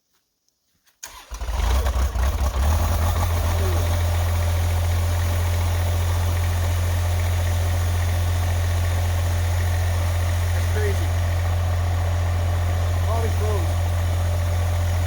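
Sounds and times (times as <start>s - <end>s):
diesel engine idling: 1.0s - 15.0s.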